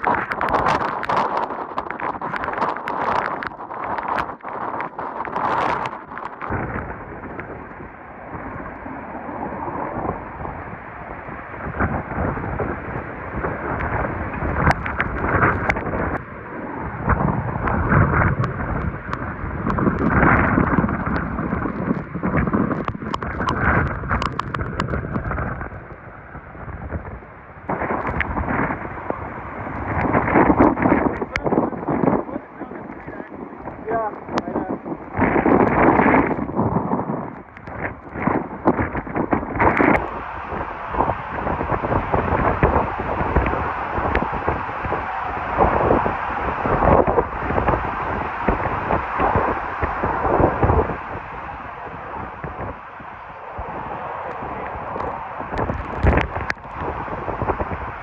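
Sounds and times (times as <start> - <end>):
rain: 0.0 - 58.0
wind gusting against microphone: 0.0 - 58.0.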